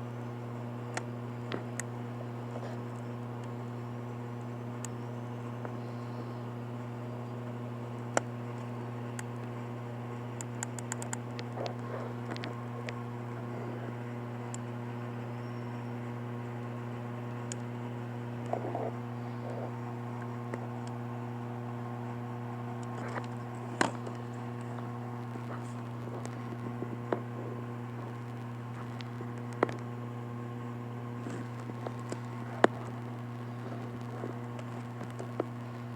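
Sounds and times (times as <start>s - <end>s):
electric fan humming: 0.0s - 35.9s.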